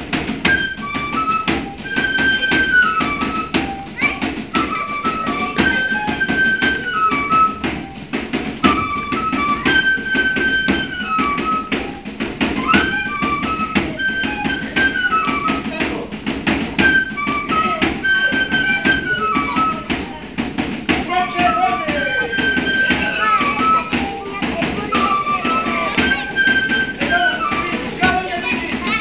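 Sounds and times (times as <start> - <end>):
flute melody: 0.0 - 29.0
steady drum beat: 0.0 - 29.0.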